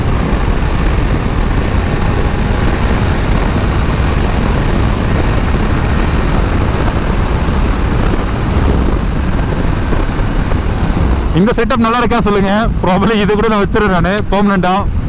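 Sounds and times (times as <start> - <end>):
motorcycle engine running: 0.0 - 13.4
wind rush over microphone: 0.0 - 15.0.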